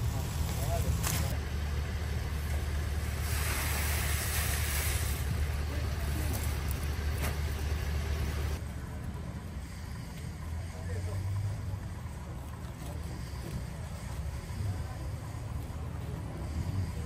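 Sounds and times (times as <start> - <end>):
machine droning: 0.0 - 17.0.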